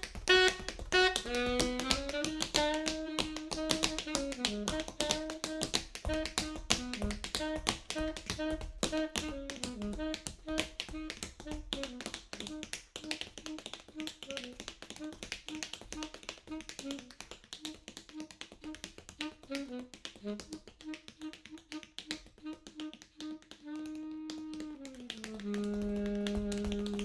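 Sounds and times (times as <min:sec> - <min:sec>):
saxophone playing short notes: 0:00.0 - 0:15.1, 0:16.0 - 0:27.0
tap shoes on wooden floor: 0:00.0 - 0:27.0.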